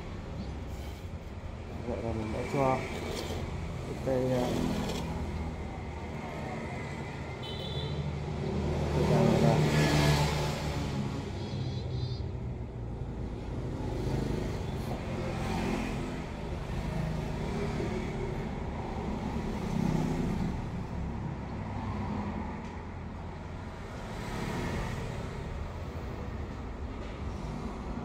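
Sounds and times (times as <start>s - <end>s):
low rumble of road traffic: 0.0s - 28.0s.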